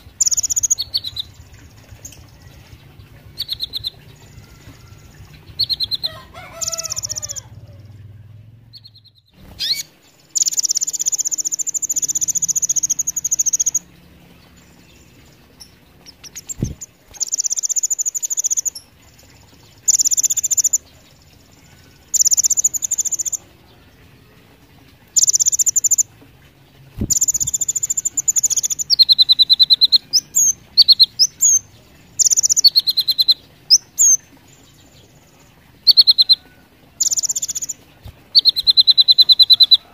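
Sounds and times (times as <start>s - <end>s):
bird chirps: 0.0s - 23.5s, 25.1s - 26.1s, 27.0s - 39.9s
bird singing buzzy trills: 0.0s - 39.9s.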